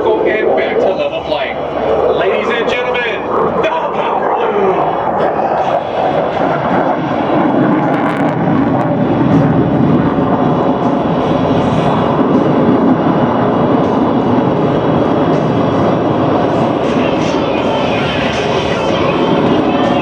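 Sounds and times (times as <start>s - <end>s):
loud jet engine noise: 0.0s - 20.0s.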